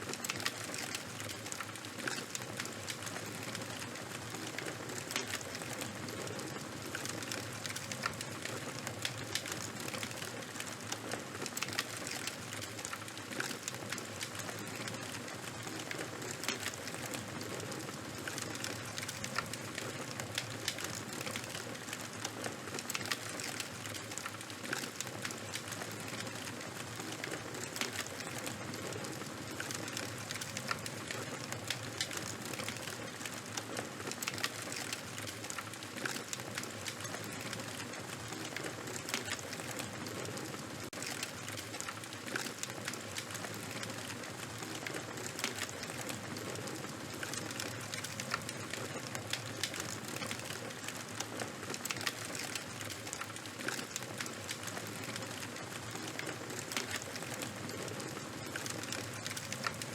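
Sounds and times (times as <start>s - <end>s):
charcoal fire crackling: 0.0s - 59.9s.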